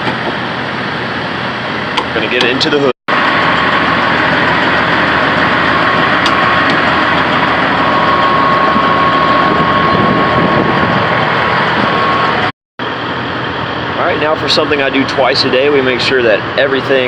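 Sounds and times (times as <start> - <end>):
thin steady whine: 0.4 - 17.0
truck diesel engine idling: 0.4 - 17.0.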